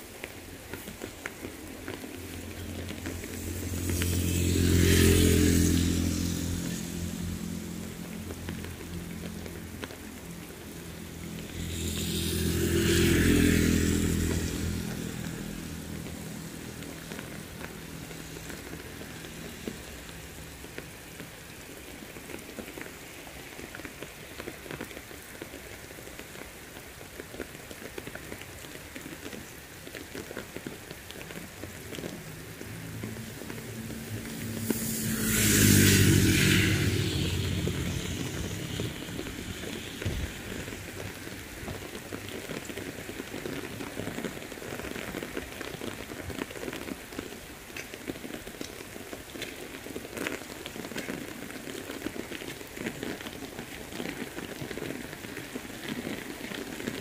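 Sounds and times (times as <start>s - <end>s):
raindrop ticks: 0.0s - 36.5s, 37.1s - 57.0s
heavy rain on road and leaves: 0.0s - 57.0s
vehicle passing on wet road: 0.0s - 57.0s.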